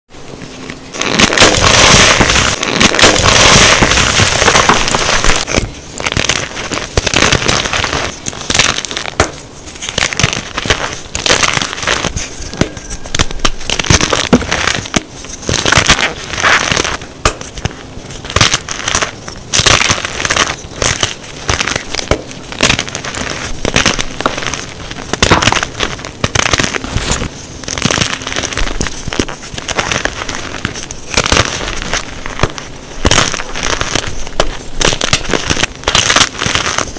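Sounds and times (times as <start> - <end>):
chalk crunching by hand: 0.5 - 36.9.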